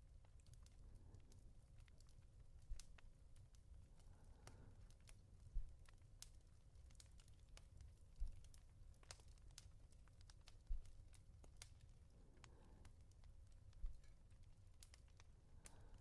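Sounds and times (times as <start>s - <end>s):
fireplace crackling: 0.0s - 16.0s.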